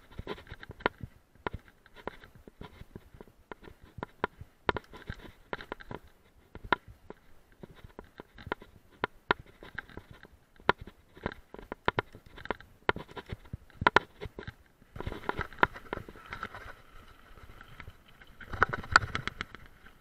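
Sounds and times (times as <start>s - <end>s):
mountain bike rattling: 0.0s - 20.0s.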